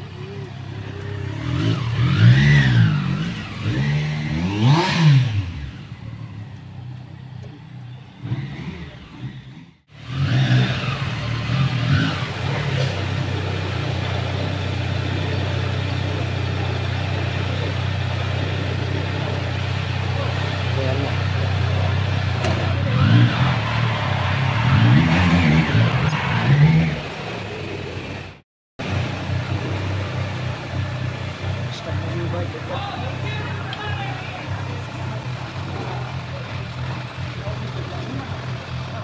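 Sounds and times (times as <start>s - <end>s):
motorcycle engine revving and idling: 0.0s - 39.0s.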